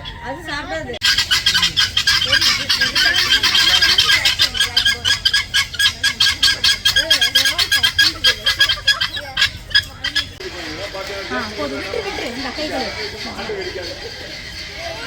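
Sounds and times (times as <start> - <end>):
faint people's voices: 0.0 - 15.0
flock of birds calling: 0.0 - 15.0.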